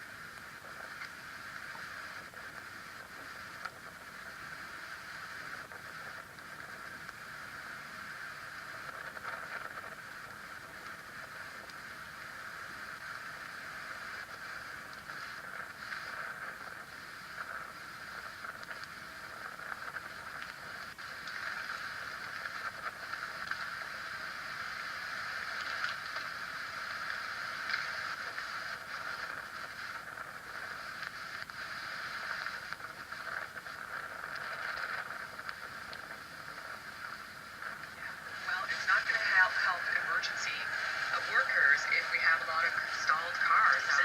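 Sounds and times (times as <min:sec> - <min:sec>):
steady rushing noise: 0:00.0 - 0:44.0.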